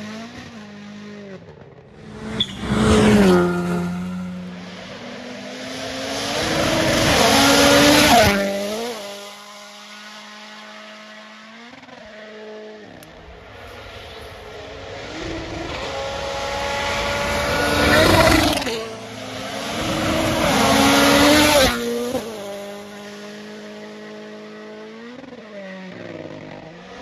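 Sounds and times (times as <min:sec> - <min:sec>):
rally cars at full throttle: 0:00.0 - 0:27.0.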